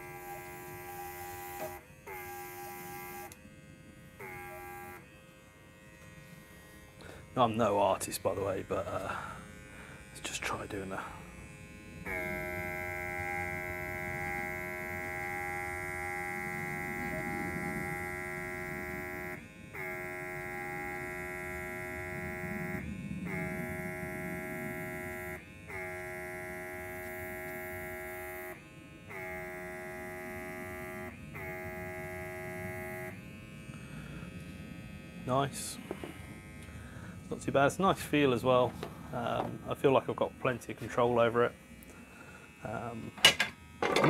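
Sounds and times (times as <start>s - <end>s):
airbrush compressor humming: 0.0s - 44.0s.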